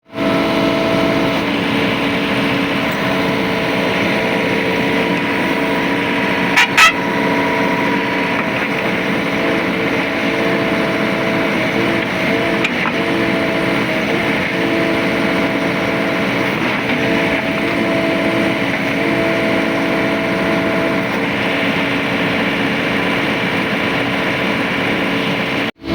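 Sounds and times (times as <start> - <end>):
loud engine bursts: 0.0 - 25.9
tractor engine running: 0.0 - 25.9.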